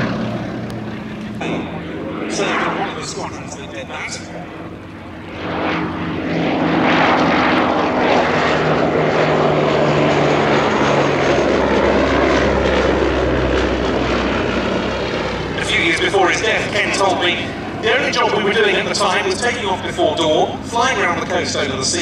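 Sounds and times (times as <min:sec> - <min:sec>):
aircraft radial engine and propeller: 0:00.0 - 0:22.0
deeper rumble: 0:00.0 - 0:22.0.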